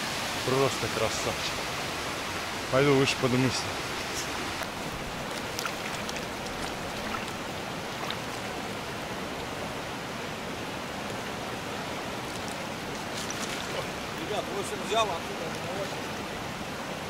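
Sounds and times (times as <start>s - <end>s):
river running over rocks: 0.0s - 17.0s.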